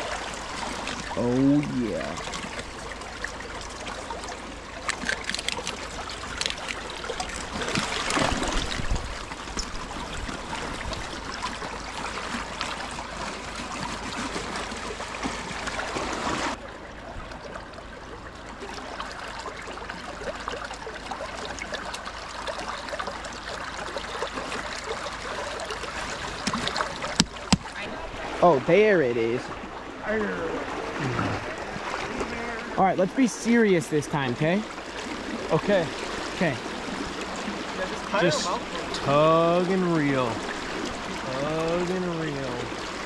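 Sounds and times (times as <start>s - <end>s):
running water splashing: 0.0s - 43.0s.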